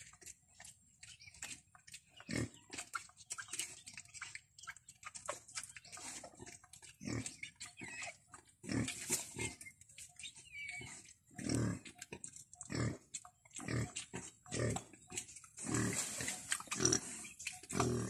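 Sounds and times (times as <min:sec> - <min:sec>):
pigs grunting: 0:00.0 - 0:04.4, 0:05.0 - 0:18.0
piglets squeaking: 0:00.0 - 0:18.0.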